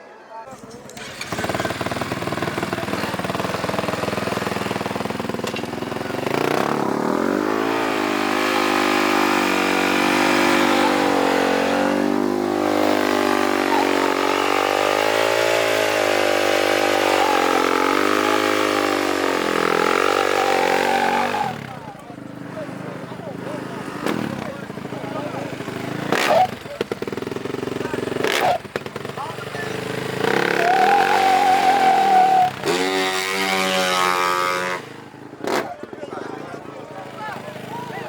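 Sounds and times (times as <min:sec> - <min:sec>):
small engine revving hard: 0:00.5 - 0:35.8.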